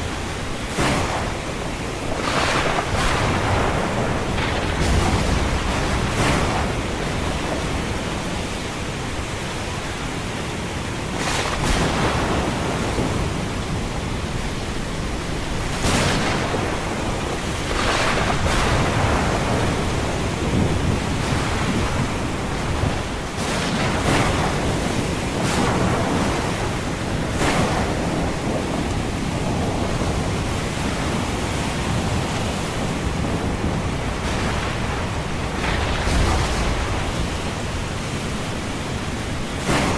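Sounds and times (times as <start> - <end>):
breaking waves: 0.0 - 39.9
ocean waves washing: 0.0 - 39.9.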